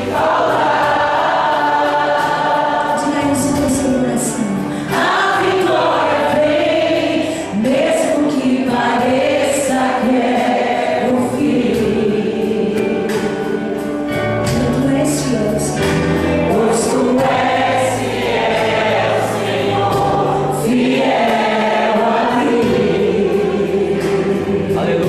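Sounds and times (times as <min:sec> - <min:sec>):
church choir singing: 0:00.0 - 0:25.0.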